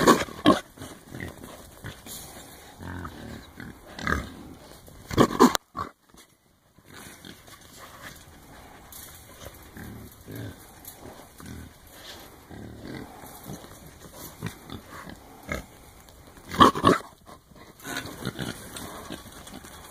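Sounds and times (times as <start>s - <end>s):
hogs grunting: 0.0s - 19.9s.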